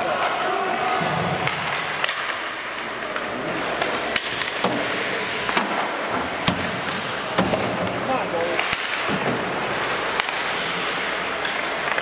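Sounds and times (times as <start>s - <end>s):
hockey sticks and puck clacking: 0.0s - 12.0s
skates scraping on ice: 0.0s - 12.0s.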